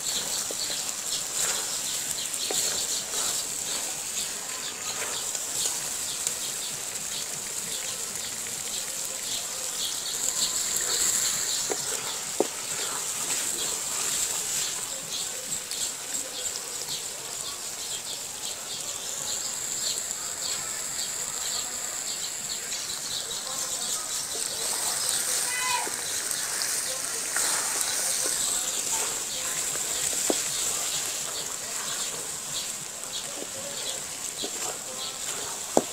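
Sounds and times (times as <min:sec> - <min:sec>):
wooden spatula stirring: 0:00.0 - 0:16.6, 0:22.9 - 0:35.9
curry sizzling in metal pot: 0:00.0 - 0:35.9.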